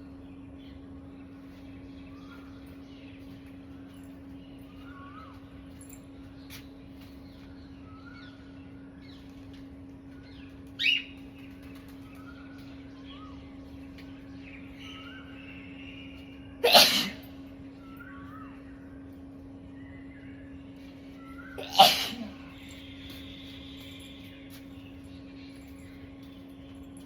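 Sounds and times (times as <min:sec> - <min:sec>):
small birds chirping: 0:00.0 - 0:27.0
steady low hum: 0:00.0 - 0:27.0.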